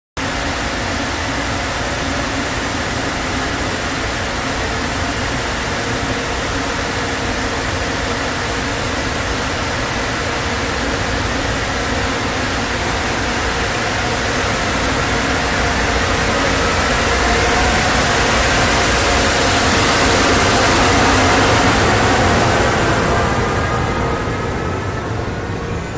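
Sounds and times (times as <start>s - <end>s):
train approaching rumble: 0.2s - 25.9s.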